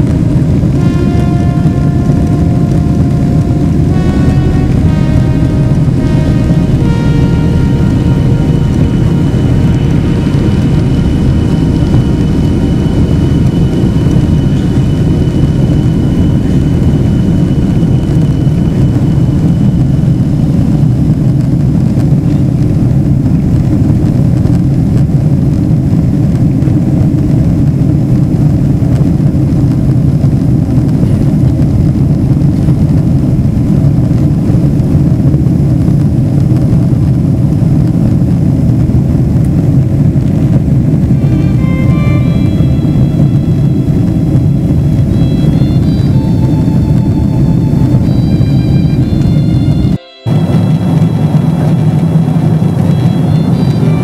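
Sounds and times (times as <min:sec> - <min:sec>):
jet engines roaring: 0:00.0 - 0:54.0
thin high whine: 0:00.0 - 0:54.0.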